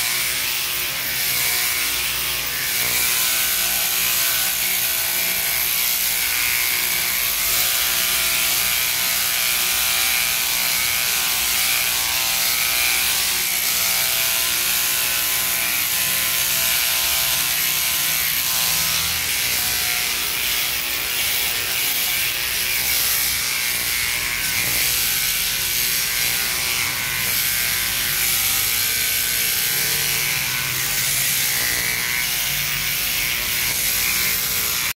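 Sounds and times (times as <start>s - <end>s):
sheep shearing machine buzzing: 0.0s - 35.0s.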